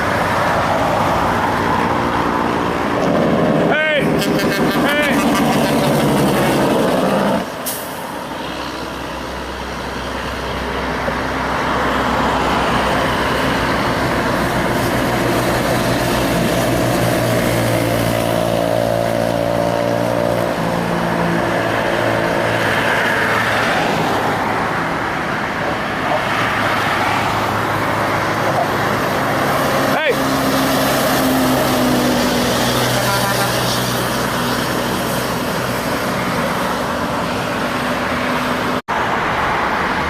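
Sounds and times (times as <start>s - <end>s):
road noise: 0.0s - 40.0s
truck diesel engines passing: 0.0s - 40.0s.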